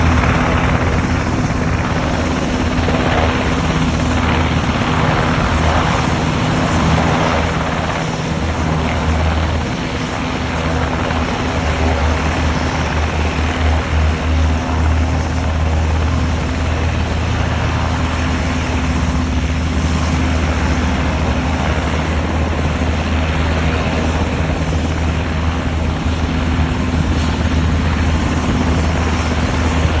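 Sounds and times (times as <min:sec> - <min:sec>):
turbine noise: 0:00.0 - 0:30.0.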